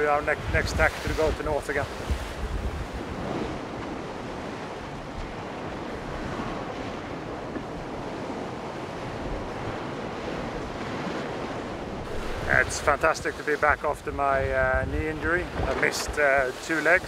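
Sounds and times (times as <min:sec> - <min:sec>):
sea waves: 0:00.0 - 0:17.0
wind: 0:00.0 - 0:17.0.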